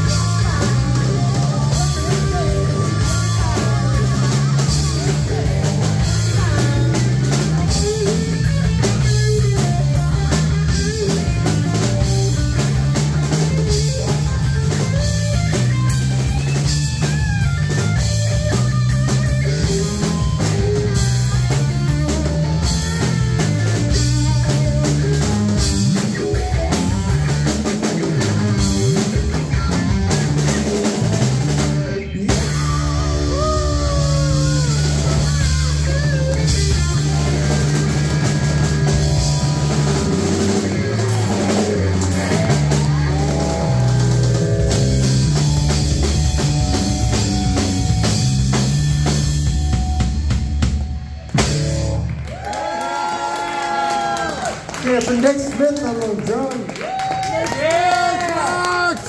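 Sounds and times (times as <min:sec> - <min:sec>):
dense drumming: 0:00.0 - 0:52.5
electric bass line: 0:00.0 - 0:59.0
electric guitar: 0:00.0 - 0:59.0.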